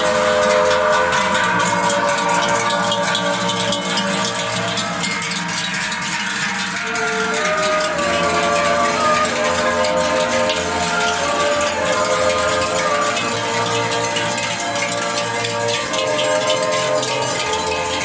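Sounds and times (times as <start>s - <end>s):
cowbells clanging: 0.0s - 18.0s.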